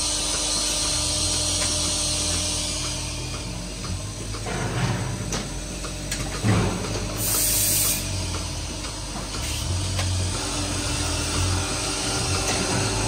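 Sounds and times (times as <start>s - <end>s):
milking machine humming: 0.0s - 13.0s.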